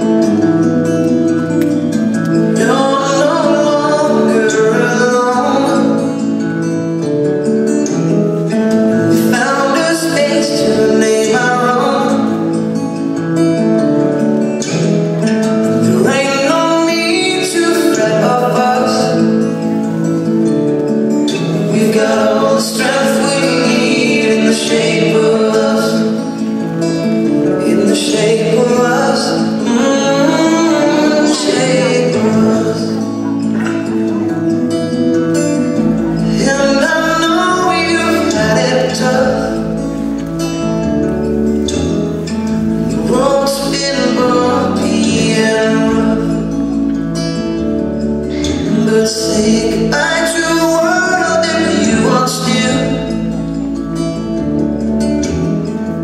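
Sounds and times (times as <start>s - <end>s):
person singing over chords: 0.0s - 6.8s, 8.4s - 13.2s, 14.7s - 20.4s, 21.3s - 54.4s.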